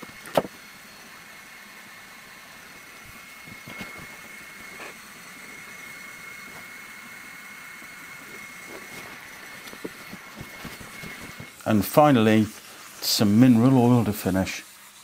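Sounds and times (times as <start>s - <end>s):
laser engraver hissing: 0.0s - 15.0s.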